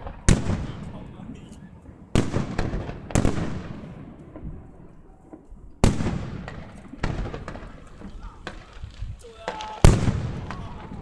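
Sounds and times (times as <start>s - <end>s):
fireworks shells booming: 0.0s - 11.0s
small fireworks pops: 0.0s - 11.0s.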